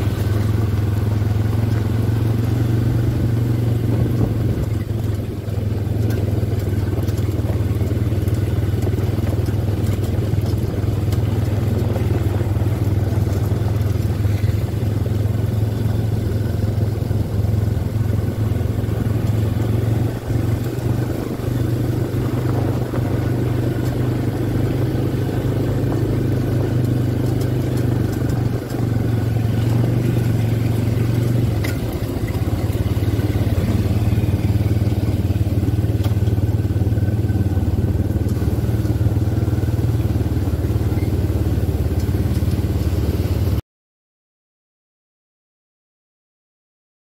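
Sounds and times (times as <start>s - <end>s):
quad bike engines droning: 0.0s - 43.6s.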